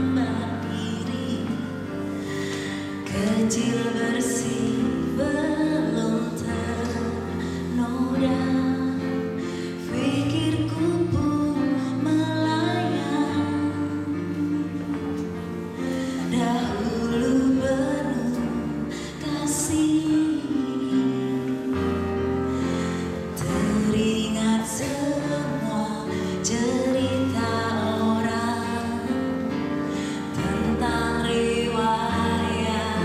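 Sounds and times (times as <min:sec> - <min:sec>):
woman singing slow song: 0:00.0 - 0:33.0.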